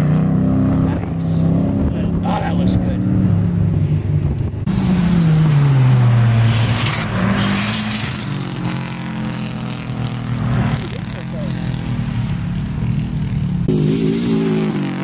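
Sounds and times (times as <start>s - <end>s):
race car engine revving: 0.0s - 15.0s
tyre and exhaust rush: 0.0s - 15.0s.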